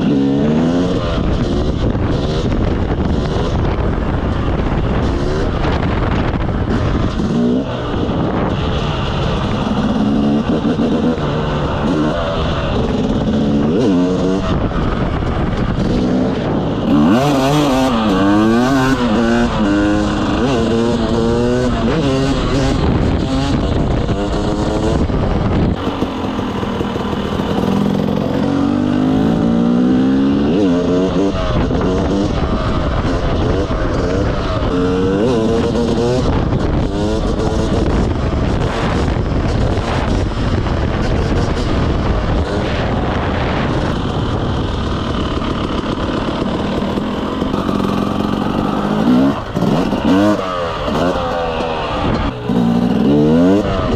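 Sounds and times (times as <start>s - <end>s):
motorcycle engine accelerating: 0.0s - 53.9s
rushing noise: 0.0s - 53.9s.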